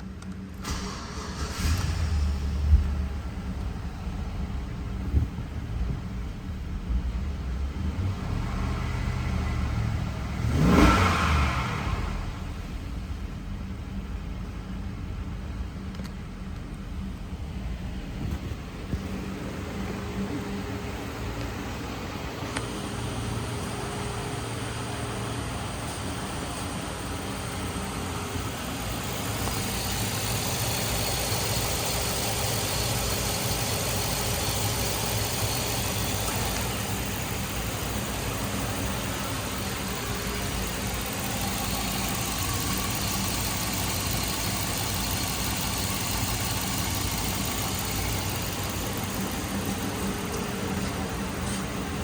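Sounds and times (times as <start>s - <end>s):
truck engine idling: 0.5s - 7.8s, 12.6s - 52.0s.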